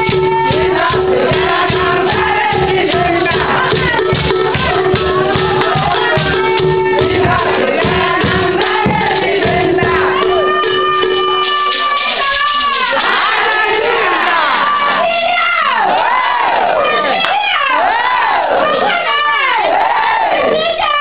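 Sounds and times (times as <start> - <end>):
group of people singing: 0.0 - 21.0.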